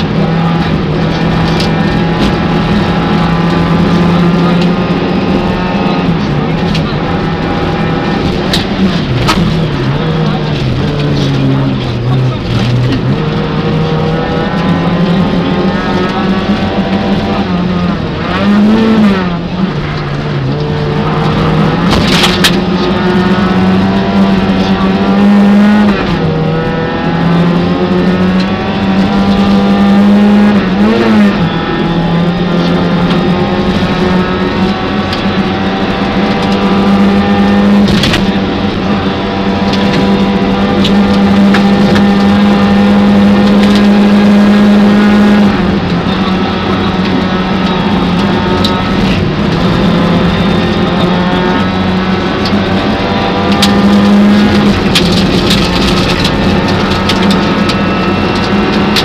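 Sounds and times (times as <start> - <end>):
rally car engine driven hard: 0.0 - 59.0.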